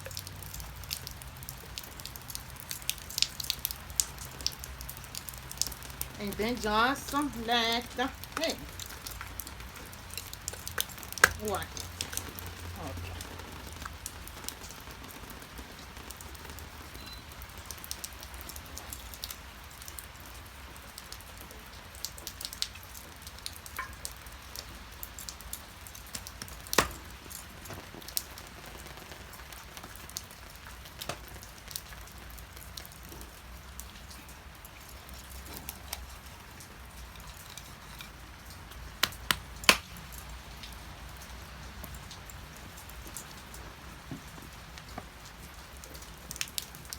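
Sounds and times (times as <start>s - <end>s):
light rain pattering: 0.0s - 46.9s.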